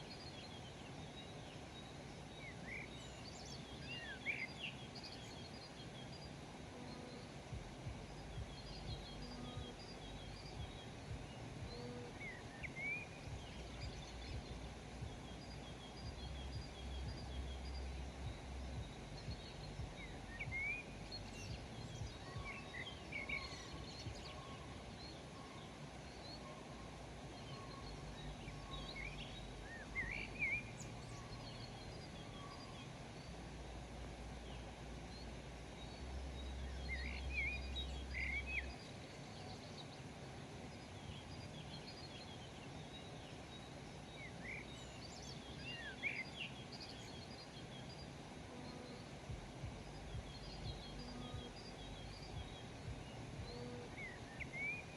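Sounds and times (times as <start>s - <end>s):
low background rumble: 0.0s - 54.9s
wild birds chirping: 0.0s - 54.9s.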